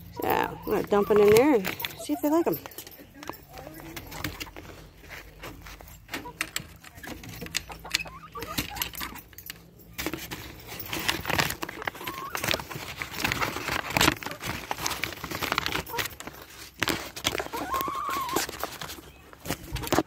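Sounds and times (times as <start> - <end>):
paper bag crinkling and rustling: 3.5 - 20.0.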